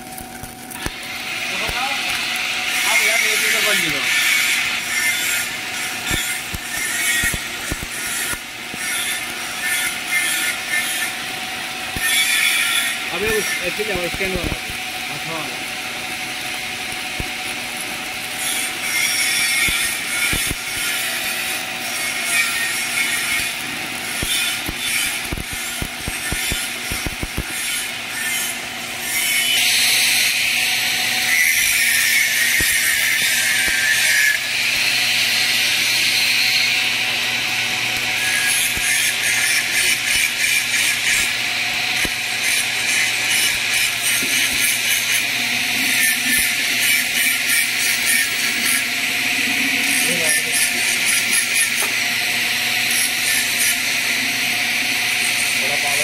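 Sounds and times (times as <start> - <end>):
welding arc crackling: 0.0 - 56.0.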